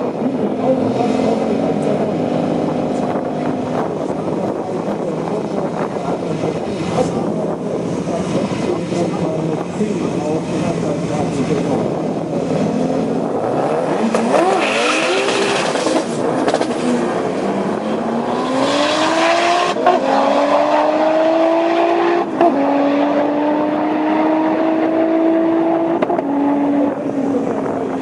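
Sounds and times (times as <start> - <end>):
car engine accelerating: 0.0 - 28.0.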